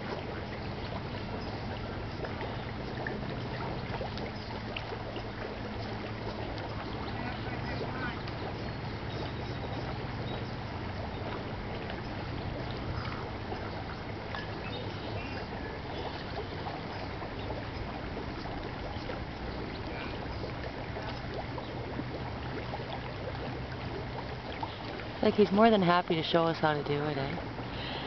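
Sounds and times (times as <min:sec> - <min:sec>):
ducks splashing in water: 0:00.0 - 0:28.0
rushing water: 0:00.0 - 0:28.0.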